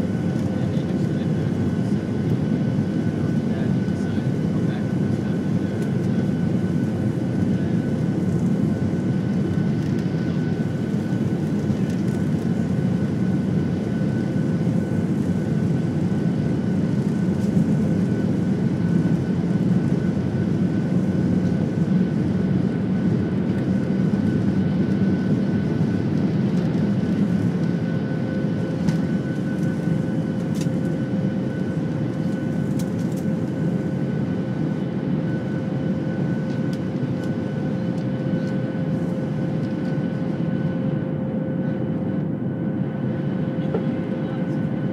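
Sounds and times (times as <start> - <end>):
jet engines rumbling with whine: 0.0 - 44.9.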